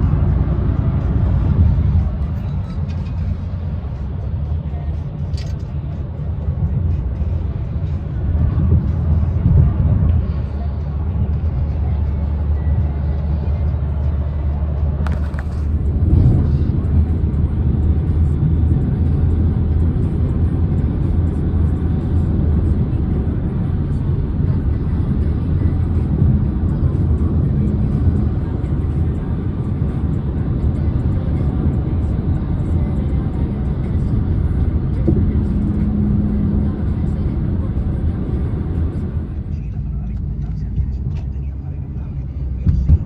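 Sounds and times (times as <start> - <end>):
car engine and tyre noise: 0.0 - 43.0.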